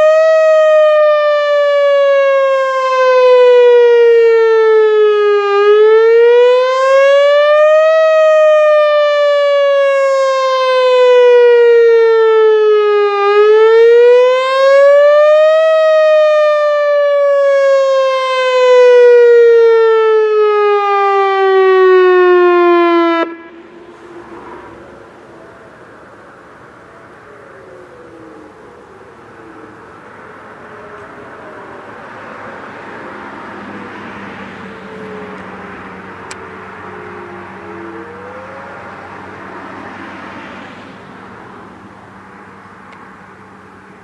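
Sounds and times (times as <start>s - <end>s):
warning siren wailing: 0.0s - 44.0s.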